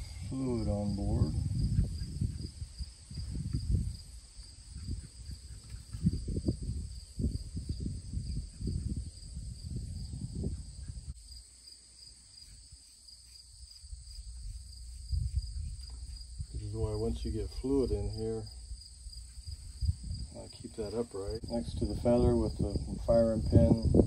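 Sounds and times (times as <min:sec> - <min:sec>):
low rumble on microphone: 0:00.0 - 0:11.2, 0:13.8 - 0:24.0
insects chirring: 0:00.0 - 0:24.0.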